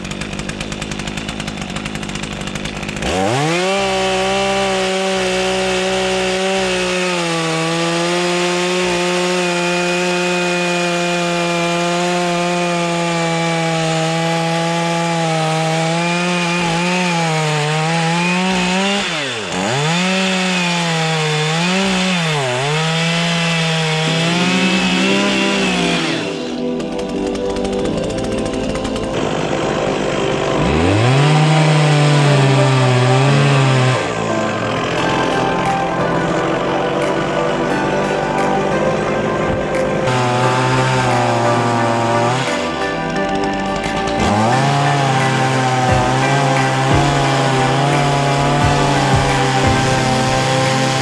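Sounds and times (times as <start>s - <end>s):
chainsaw carving wood: 0.0s - 51.0s.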